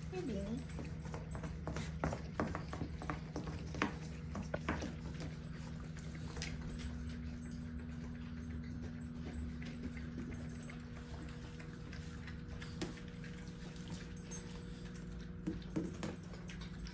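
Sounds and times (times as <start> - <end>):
dog licking and lapping: 0.0 - 16.9
steady low hum: 0.0 - 16.9.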